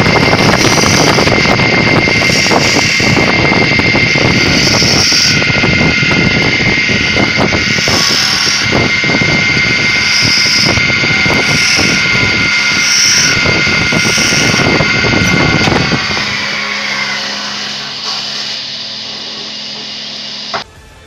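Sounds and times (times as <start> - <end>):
lathe motor whine: 0.0 - 20.7.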